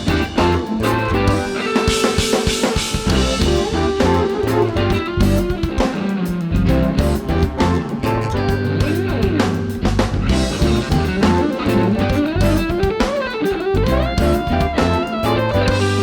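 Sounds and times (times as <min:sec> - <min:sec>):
bass guitar: 0:00.0 - 0:16.0
drum kit: 0:00.0 - 0:16.0
electric guitar: 0:00.0 - 0:16.0.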